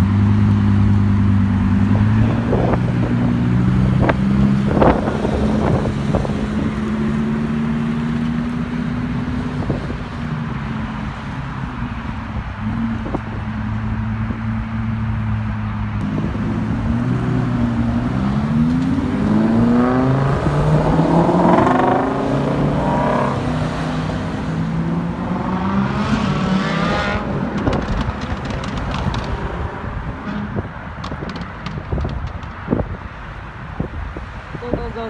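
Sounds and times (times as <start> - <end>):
car engine idling and accelerating: 0.0 - 35.0.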